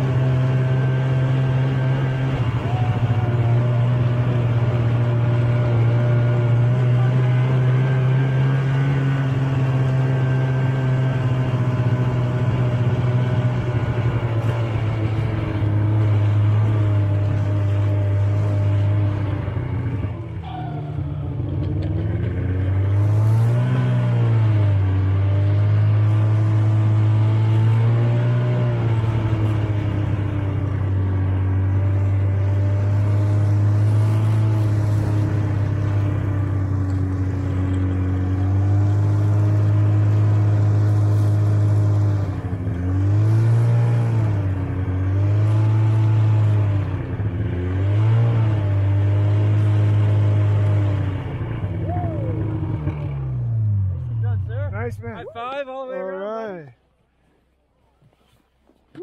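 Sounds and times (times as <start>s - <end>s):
snowmobile engine running: 0.0s - 56.6s.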